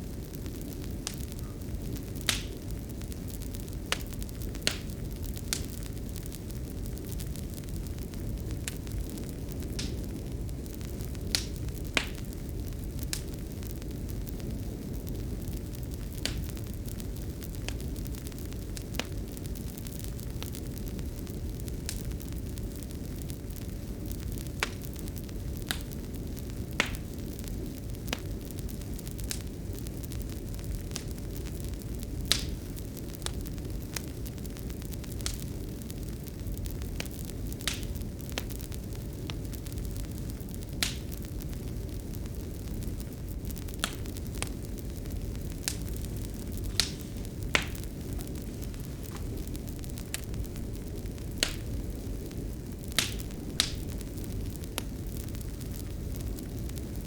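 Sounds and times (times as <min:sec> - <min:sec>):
faint steady hum: 0:00.0 - 0:57.0
sharp pops of fire: 0:00.0 - 0:57.0
wood fire crackling: 0:00.0 - 0:57.0.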